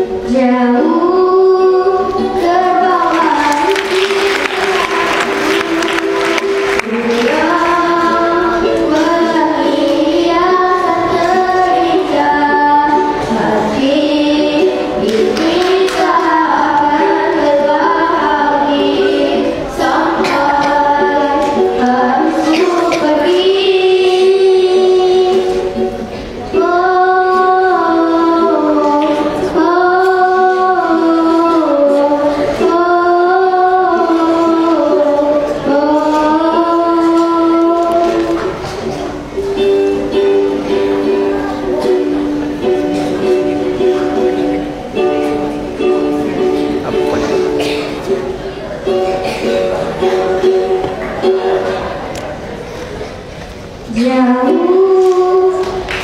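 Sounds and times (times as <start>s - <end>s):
girl singing: 0.0s - 52.0s, 53.8s - 56.0s
ukulele: 0.0s - 56.0s.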